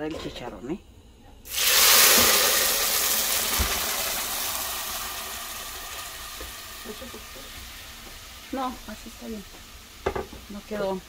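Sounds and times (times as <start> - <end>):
sauce sizzling in hot oil: 1.4 - 11.0.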